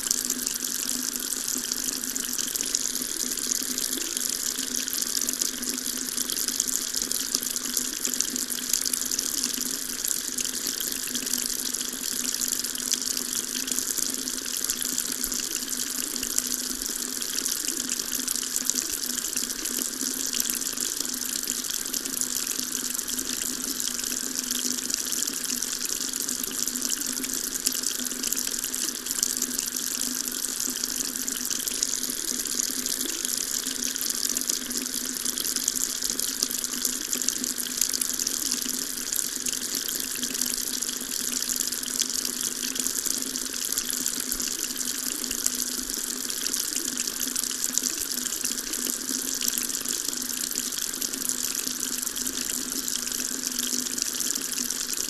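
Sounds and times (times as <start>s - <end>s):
water running from a tap: 0.0s - 55.0s.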